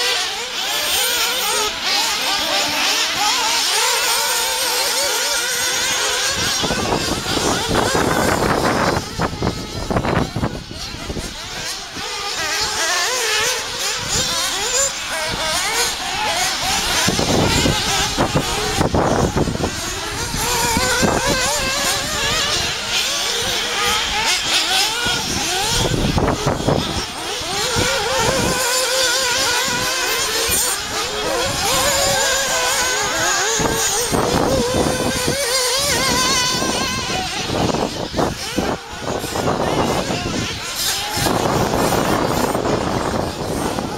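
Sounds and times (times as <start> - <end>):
rc buggy motors revving: 0.0 - 43.9.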